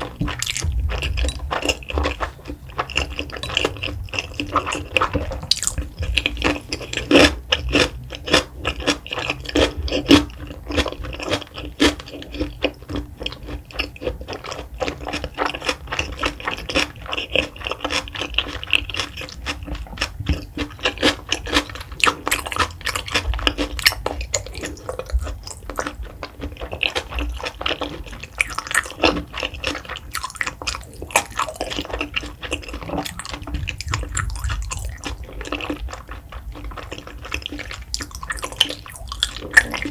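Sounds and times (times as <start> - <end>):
wet chewing mouth clicks: 0.0 - 39.9.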